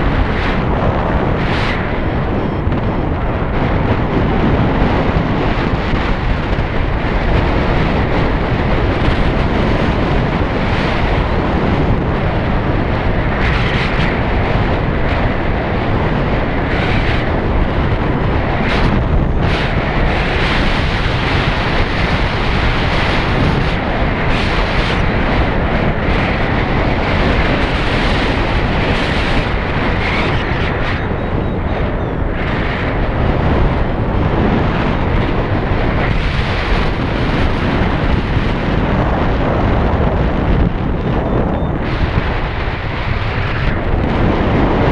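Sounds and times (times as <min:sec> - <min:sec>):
road and engine noise: 0:00.0 - 0:44.9
wind buffeting microphone: 0:00.0 - 0:44.9.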